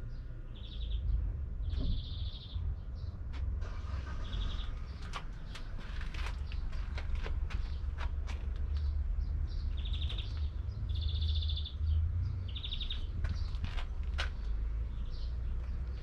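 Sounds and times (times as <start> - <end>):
small birds chirping: 0.0 - 3.3, 4.2 - 16.0.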